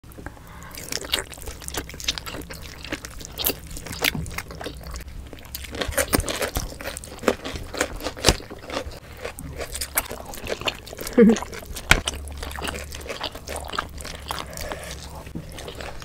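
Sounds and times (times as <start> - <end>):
people chewing with mouth clicks: 0.1 - 16.0.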